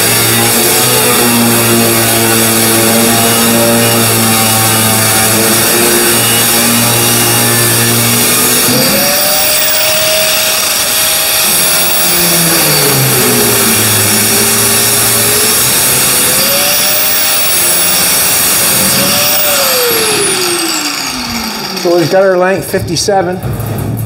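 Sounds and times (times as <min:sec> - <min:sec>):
angle grinder cutting steel: 0:00.0 - 0:23.2.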